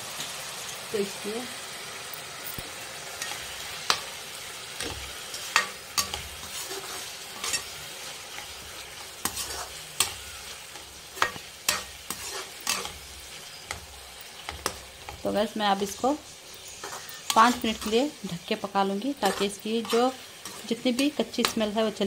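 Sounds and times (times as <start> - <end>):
minced meat sizzling: 0.0 - 22.0
steel spoon scraping pan: 3.1 - 4.1, 4.8 - 21.9.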